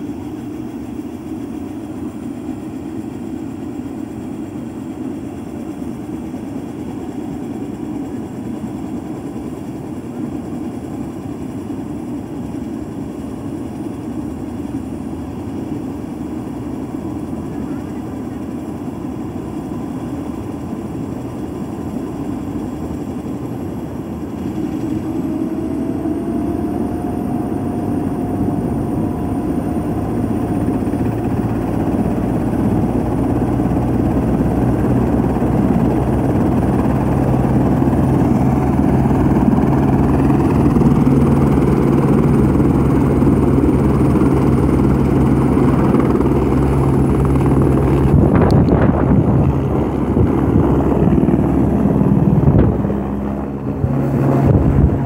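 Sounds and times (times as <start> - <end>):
helicopter engine whine: 0.0 - 55.0
rotor low drone: 0.0 - 55.0.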